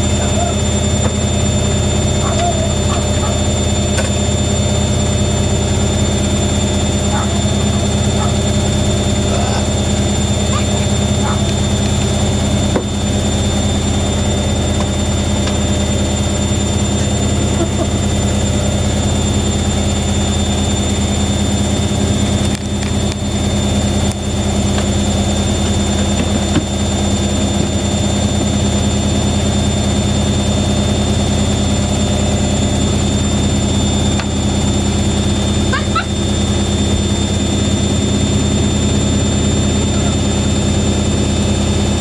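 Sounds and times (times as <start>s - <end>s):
washing machines running: 0.0s - 42.0s.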